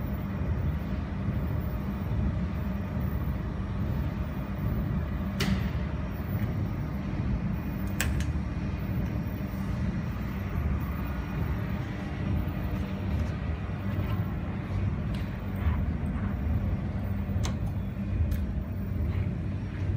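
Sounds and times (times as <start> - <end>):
cooling fan humming: 0.0 - 19.9.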